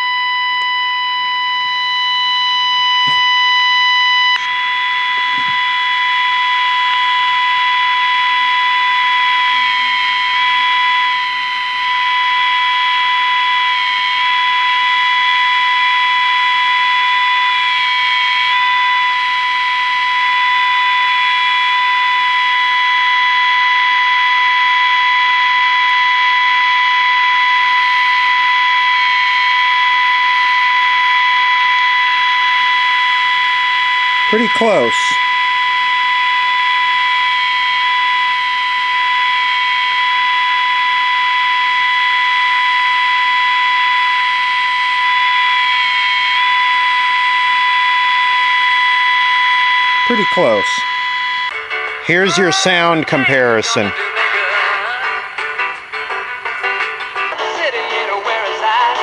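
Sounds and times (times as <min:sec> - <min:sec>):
high steady test tone: 0:00.0 - 0:54.0
wavering radio whistle: 0:00.0 - 0:54.7.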